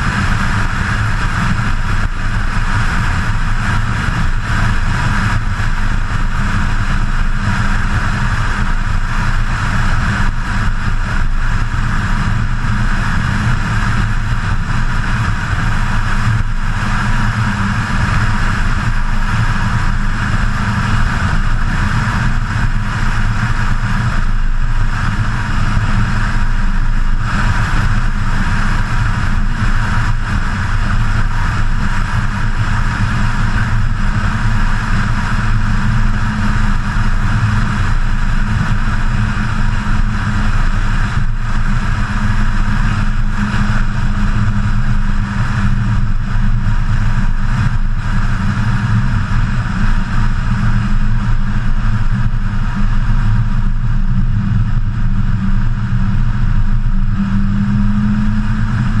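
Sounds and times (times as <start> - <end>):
car engine cruising drone: 0.0 - 59.0
wind and road rush: 0.0 - 59.0.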